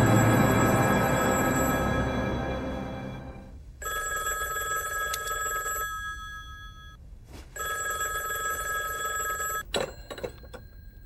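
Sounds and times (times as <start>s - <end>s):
telephone bell ringing: 0.0s - 2.6s, 3.8s - 7.0s, 7.6s - 11.0s.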